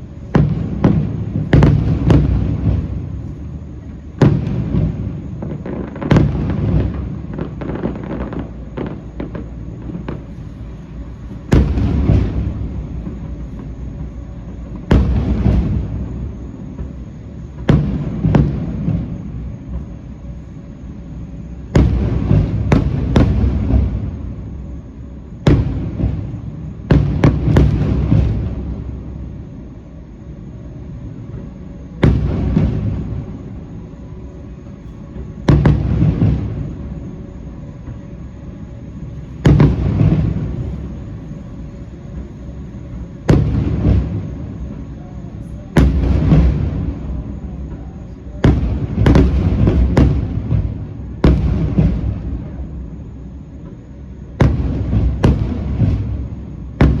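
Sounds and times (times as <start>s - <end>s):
fireworks bursting with sharp bangs: 0.0s - 57.0s.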